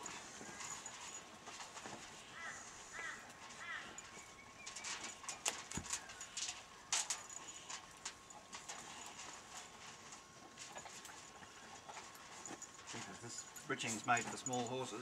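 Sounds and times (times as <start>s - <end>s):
horse hooves clopping: 0.0s - 15.0s.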